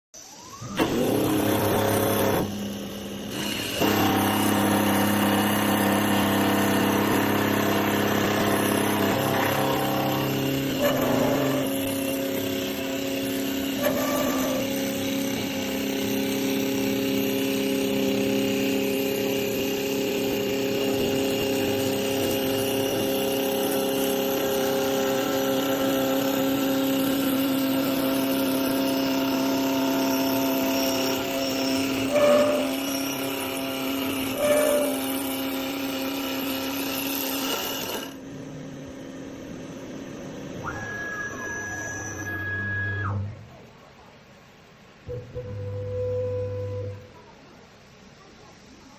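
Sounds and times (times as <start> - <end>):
woodworking lathe whining: 0.2 - 43.4.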